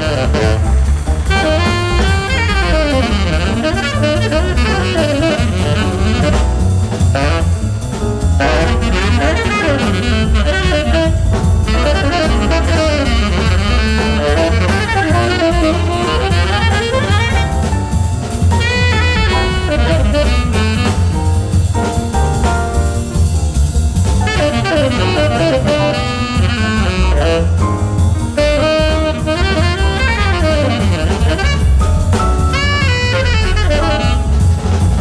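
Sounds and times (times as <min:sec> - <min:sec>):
tenor saxophone: 0:00.0 - 0:22.1, 0:24.2 - 0:35.0
double bass: 0:00.0 - 0:35.0
drum kit: 0:00.0 - 0:35.0
piano: 0:00.0 - 0:35.0.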